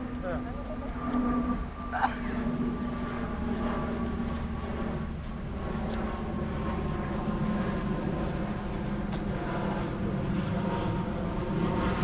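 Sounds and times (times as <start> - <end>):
mechanical hum with low rumble: 0.0 - 12.0.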